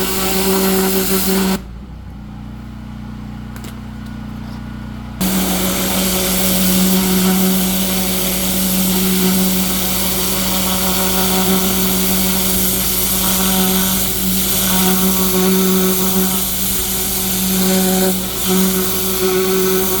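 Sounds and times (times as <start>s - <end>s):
pressure washer water jet hissing: 0.0s - 1.6s, 5.2s - 20.0s
pressure washer machine hum: 0.0s - 20.0s.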